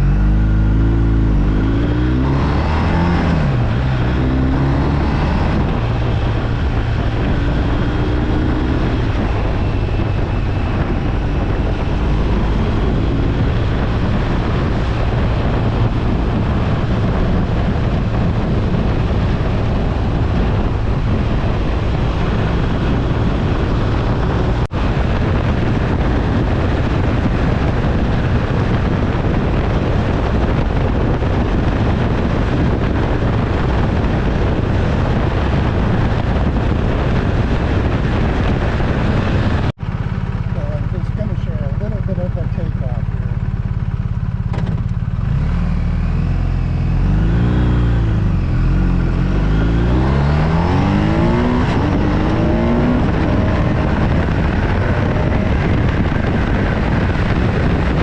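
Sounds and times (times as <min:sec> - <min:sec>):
motorcycle engine: 0:00.0 - 0:58.0
wind noise: 0:00.0 - 0:58.0.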